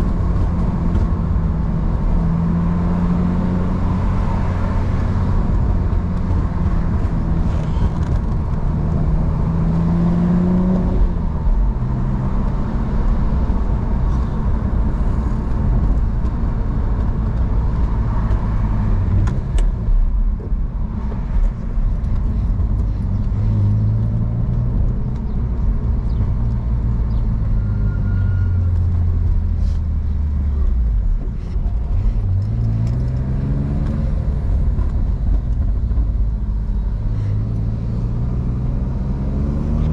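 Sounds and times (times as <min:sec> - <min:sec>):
car engine and exhaust revving: 0:00.0 - 0:39.9.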